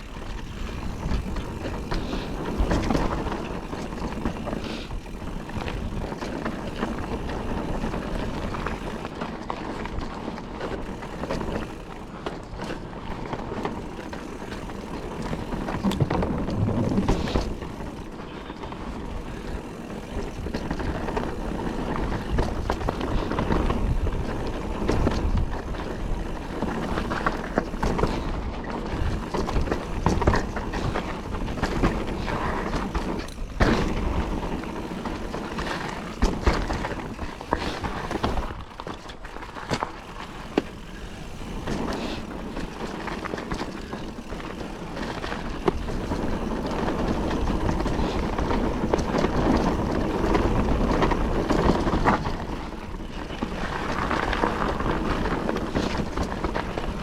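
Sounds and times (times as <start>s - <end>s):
bike knocking and rattling: 0.0s - 57.0s
bike tyres on dirt and gravel: 0.0s - 57.0s.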